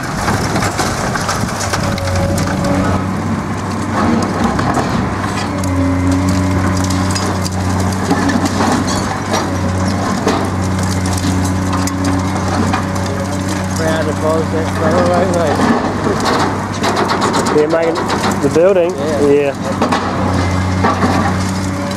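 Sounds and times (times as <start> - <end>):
concrete cracking and crunching: 0.0 - 21.9
diesel engine drone: 0.0 - 21.9.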